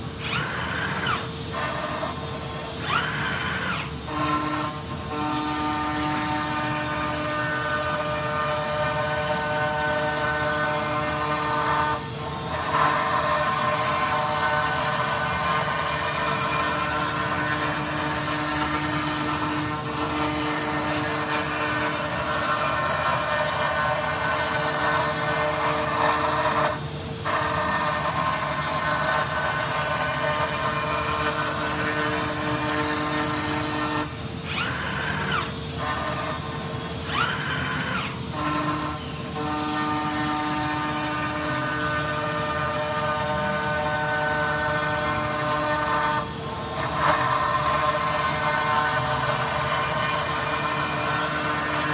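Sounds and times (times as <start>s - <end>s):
milling machine cutting metal: 0.0s - 51.9s.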